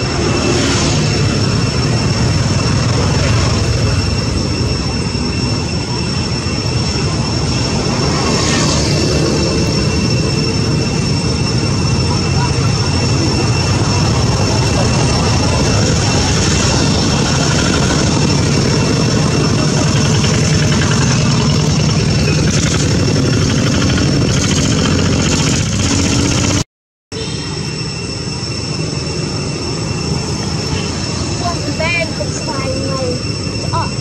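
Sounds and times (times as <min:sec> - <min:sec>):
steady high-pitched whine: 0:00.0 - 0:34.0.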